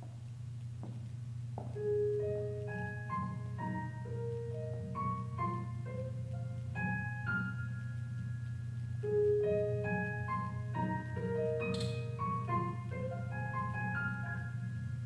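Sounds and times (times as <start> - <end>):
steady low hum: 0.0 - 15.0
bell-like keyboard notes: 1.8 - 8.1, 9.0 - 15.0.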